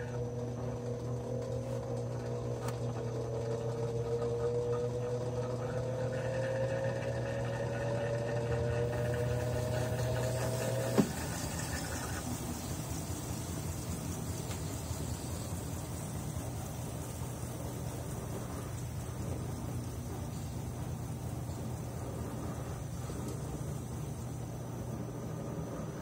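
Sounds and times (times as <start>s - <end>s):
washing machine hum: 0.0s - 26.0s
washing machine motor whine: 0.0s - 26.0s
washing machine tub spinning: 0.0s - 26.0s.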